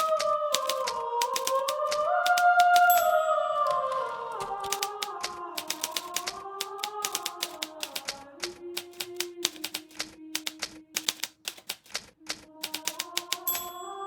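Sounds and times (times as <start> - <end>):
typewriter key strikes: 0.0 - 3.2, 4.4 - 8.1, 8.8 - 14.0.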